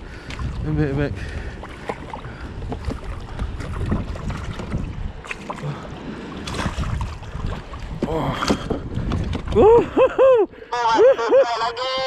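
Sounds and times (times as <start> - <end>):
water sloshing against kayak hull: 0.0 - 10.0
wind buffeting microphone: 0.0 - 10.2.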